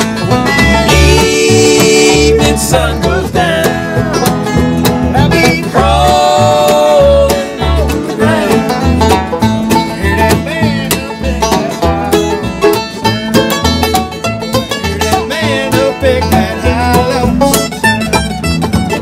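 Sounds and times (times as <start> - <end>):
bluegrass band playing: 0.0 - 19.0
upright bass thumping: 0.0 - 19.0.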